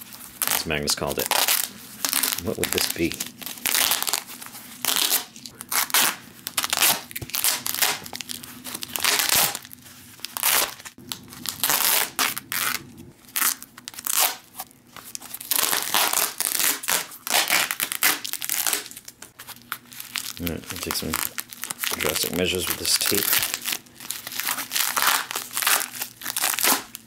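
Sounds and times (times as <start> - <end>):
plastic wrapping crinkling and tearing: 0.0 - 27.0.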